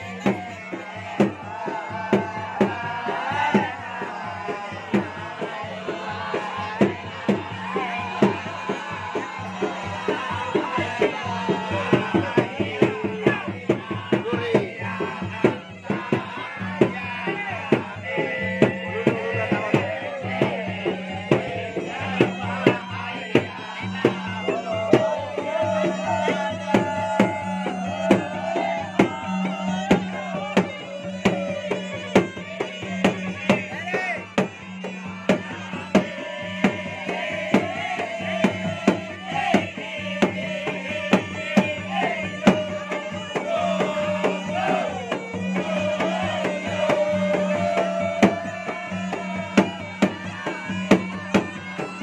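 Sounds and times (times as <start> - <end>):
double-reed shawm melody: 0.0 - 52.0
drums beating fast pattern: 0.0 - 52.0.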